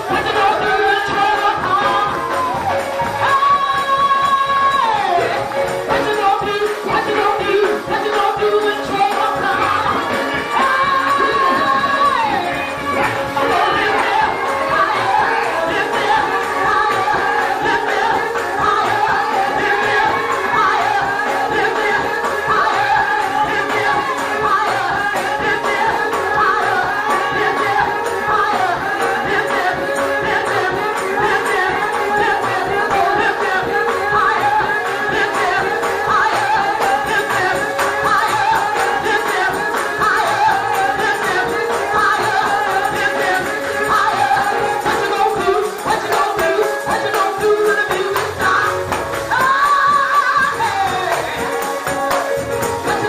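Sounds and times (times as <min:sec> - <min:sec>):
percussion keeping time: 0:00.0 - 0:53.0
steady instrumental accompaniment: 0:00.0 - 0:53.0
voices singing long notes: 0:00.0 - 0:53.0.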